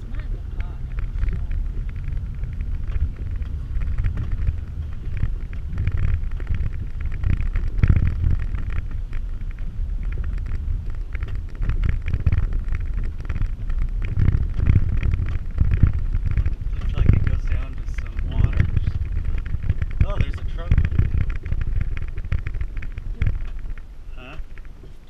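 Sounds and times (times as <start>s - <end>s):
body knocks and rattles: 0.0s - 25.0s
vehicle engine and tyres rumbling: 0.0s - 25.0s.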